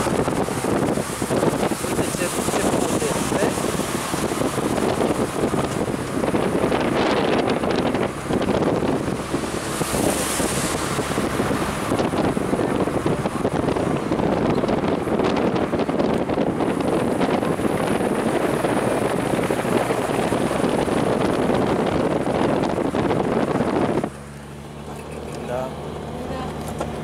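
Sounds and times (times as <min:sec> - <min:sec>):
car road noise: 0:00.0 - 0:27.0
wind rushing on microphone: 0:00.0 - 0:27.0.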